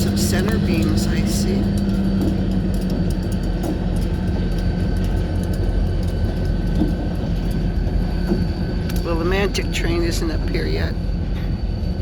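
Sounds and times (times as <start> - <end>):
freight train rumbling past: 0.0 - 12.0
wheels clicking on rails: 0.0 - 12.0.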